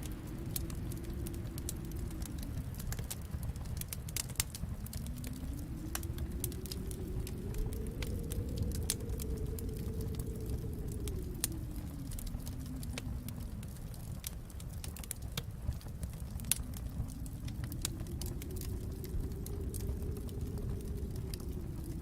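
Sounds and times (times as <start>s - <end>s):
low rumble: 0.0s - 22.0s
wood fire crackling: 0.0s - 22.0s.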